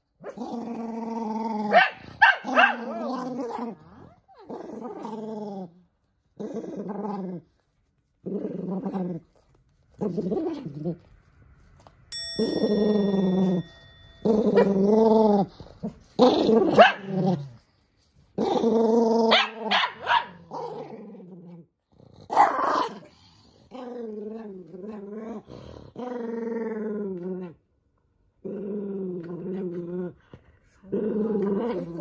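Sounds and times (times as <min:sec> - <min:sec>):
dog growling and snarling: 0:00.2 - 0:07.6, 0:08.2 - 0:11.2, 0:12.5 - 0:17.7, 0:18.3 - 0:27.6, 0:28.4 - 0:32.0.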